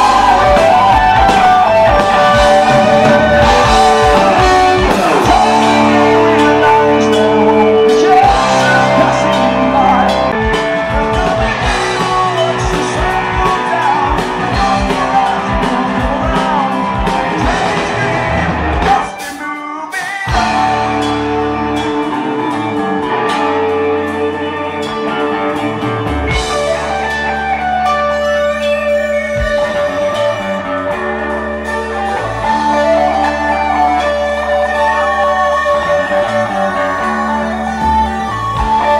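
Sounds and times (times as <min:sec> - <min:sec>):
live heavy metal band: 0:00.0 - 0:38.9.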